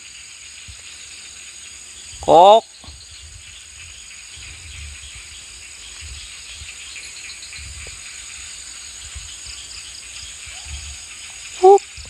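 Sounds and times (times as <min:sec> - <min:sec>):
forest insects trilling: 0:00.0 - 0:12.0
wind rumble on microphone: 0:02.0 - 0:12.0.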